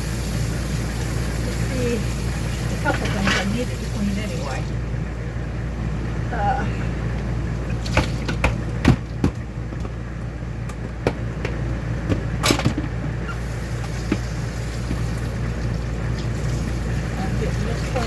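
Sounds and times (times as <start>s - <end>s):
low background rush: 0.0s - 18.0s.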